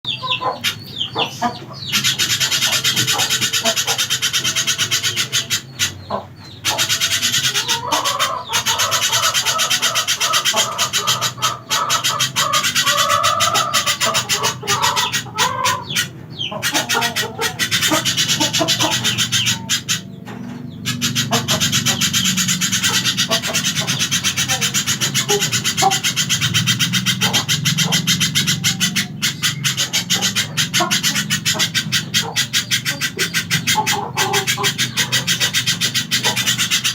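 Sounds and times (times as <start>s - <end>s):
bird chattering song: 0.0s - 36.9s.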